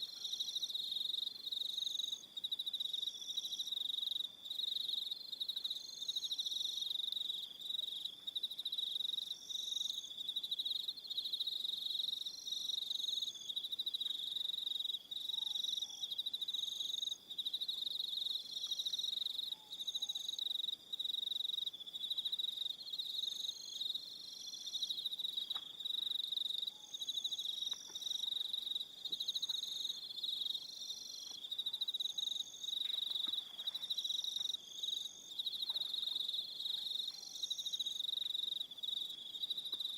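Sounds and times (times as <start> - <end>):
crickets trilling chorus: 0.0 - 39.9.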